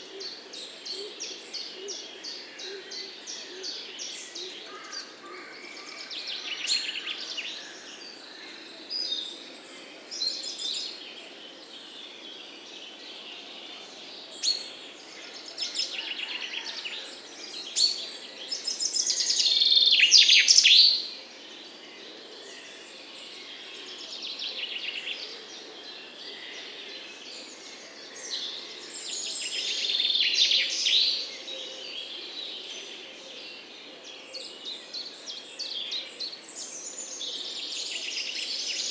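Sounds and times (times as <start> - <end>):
faint outdoor background hiss: 0.0 - 38.9
songbirds singing and chirping: 0.0 - 38.9.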